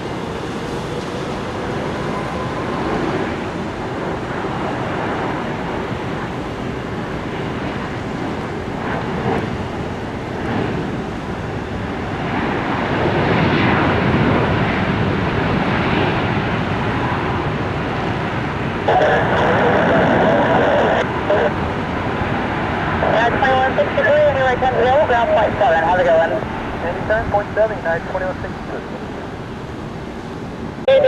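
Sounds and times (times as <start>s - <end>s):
jet engines rushing: 0.0s - 31.0s.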